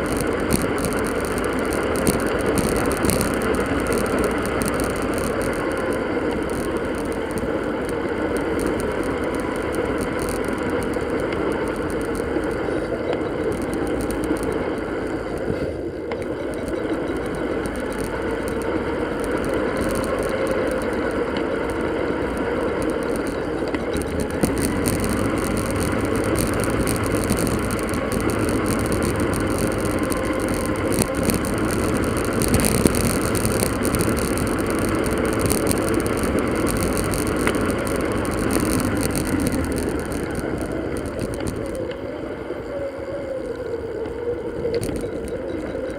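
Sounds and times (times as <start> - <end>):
bicycle riding noise: 0.0 - 45.9.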